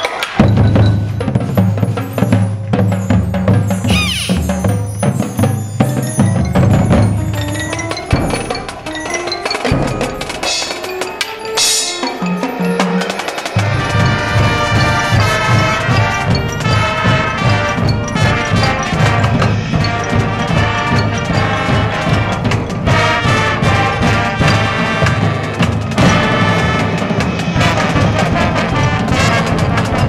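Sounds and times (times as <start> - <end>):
mallet percussion: 0.0 - 30.0
marching band playing: 0.1 - 30.0.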